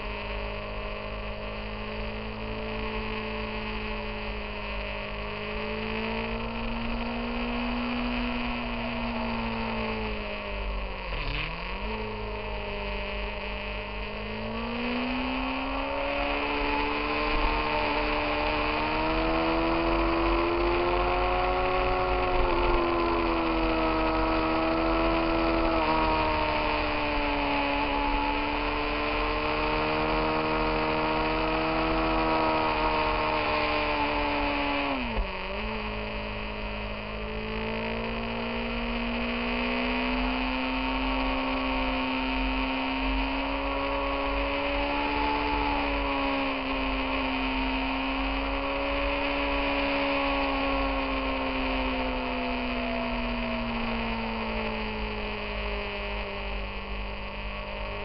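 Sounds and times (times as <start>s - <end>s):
motorcycle engine drone: 0.0s - 58.0s
wind and road noise: 0.0s - 58.0s.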